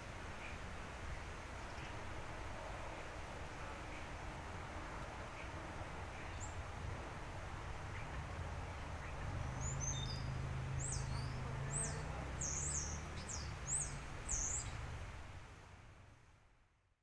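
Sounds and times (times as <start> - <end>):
songbirds chirping: 0.0 - 16.3.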